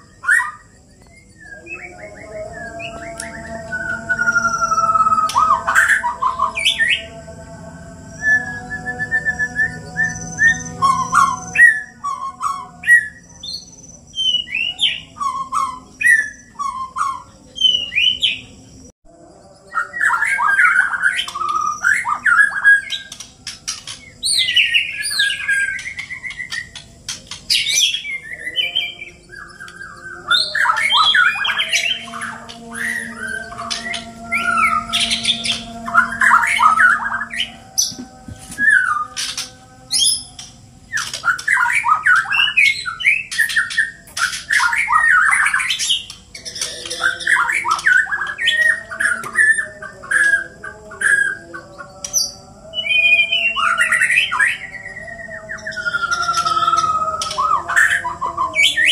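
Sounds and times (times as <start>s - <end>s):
birds singing whistled song: 0.0s - 58.9s.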